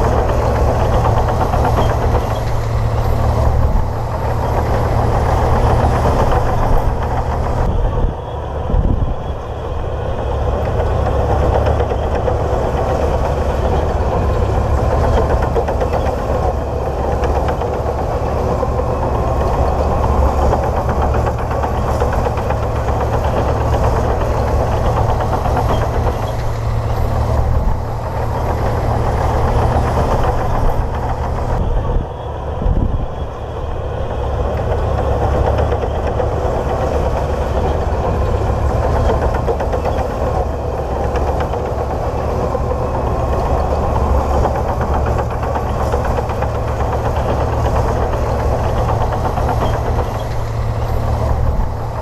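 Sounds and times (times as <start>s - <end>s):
bulldozer diesel engine rumbling: 0.0s - 52.0s.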